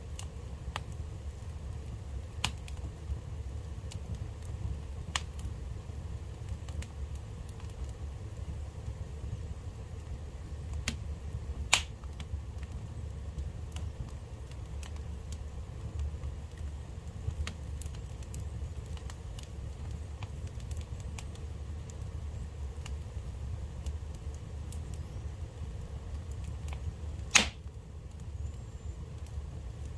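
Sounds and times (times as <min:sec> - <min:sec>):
fire crackling and popping: 0:00.0 - 0:29.9.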